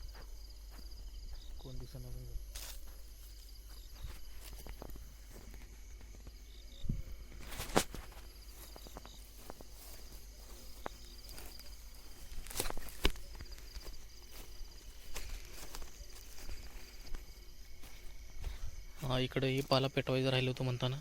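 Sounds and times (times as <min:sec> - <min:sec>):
footsteps crunching on dry ground: 0:00.0 - 0:21.0
insects chirping: 0:00.0 - 0:21.0.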